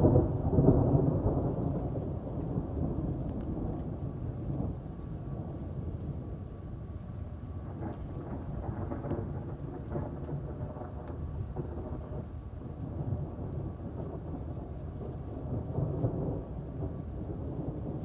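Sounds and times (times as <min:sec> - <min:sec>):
rolling thunder: 0:00.0 - 0:18.0
steady rain: 0:00.0 - 0:18.0.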